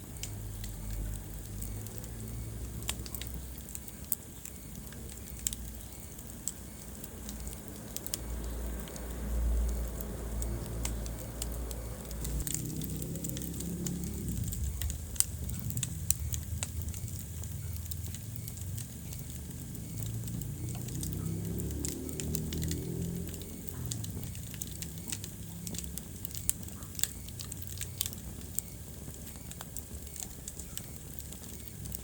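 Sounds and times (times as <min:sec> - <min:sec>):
low rumble of flame: 0:00.0 - 0:32.0
wood fire crackling and popping: 0:00.0 - 0:32.0.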